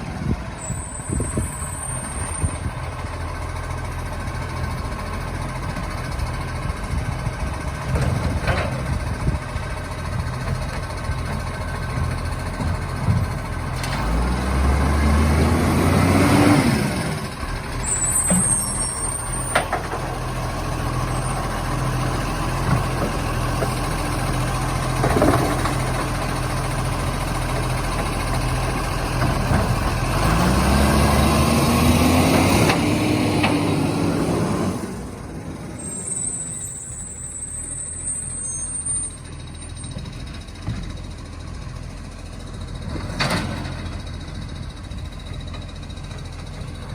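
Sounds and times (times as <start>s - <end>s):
diesel truck engine revving: 0.0s - 46.9s.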